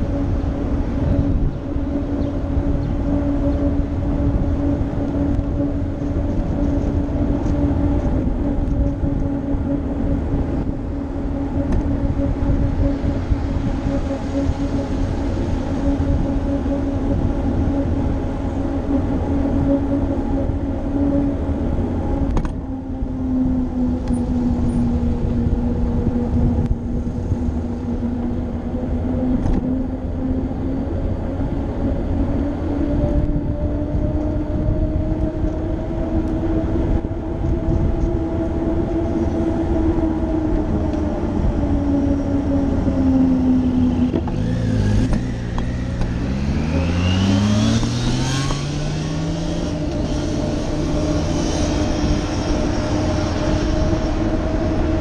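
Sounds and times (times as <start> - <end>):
bicycle road and wind noise: 0.0 - 55.0
motorcycle accelerating: 0.0 - 55.0.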